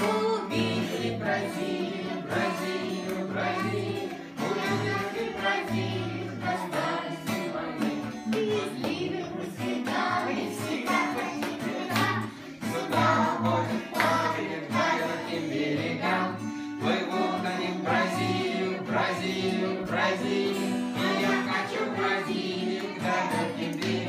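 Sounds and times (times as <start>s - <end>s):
acoustic guitar strumming: 0.0s - 24.0s
voices singing along: 0.0s - 24.0s.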